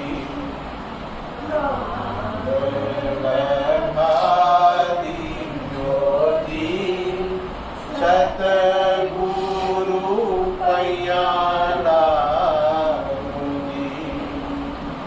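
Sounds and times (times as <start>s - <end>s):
group chanting a prayer song: 0.0s - 15.0s.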